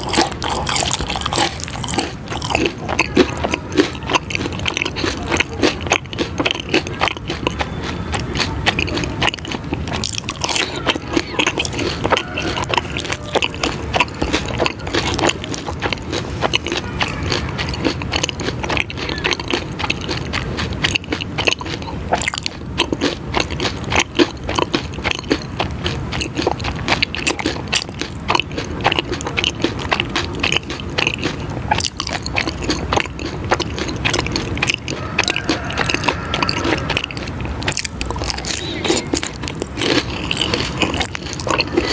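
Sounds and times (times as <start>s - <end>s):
food crunching while chewed: 0.0s - 41.9s.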